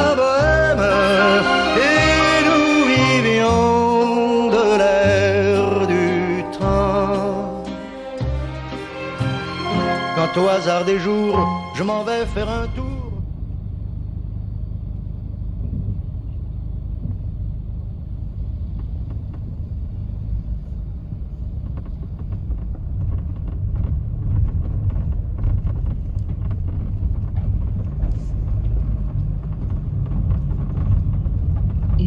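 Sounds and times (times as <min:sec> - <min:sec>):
engine and tyre rumble: 0:00.0 - 0:32.0.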